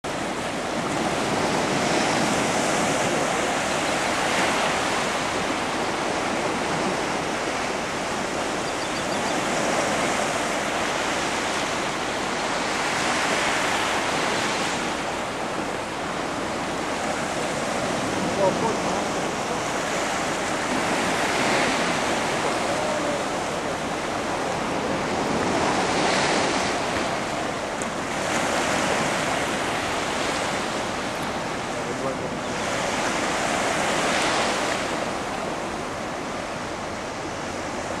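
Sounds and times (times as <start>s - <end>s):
flood water rushing: 0.0s - 38.0s
wind gusts on microphone: 0.0s - 38.0s.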